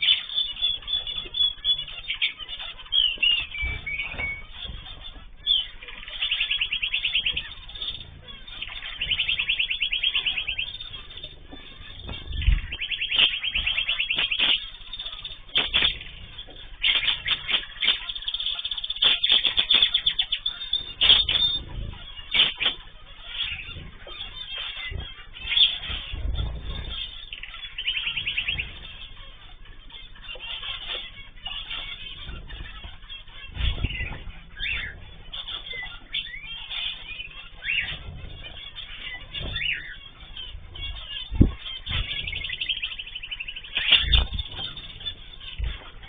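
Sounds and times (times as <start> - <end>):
cage birds chirping: 0.0 - 46.0.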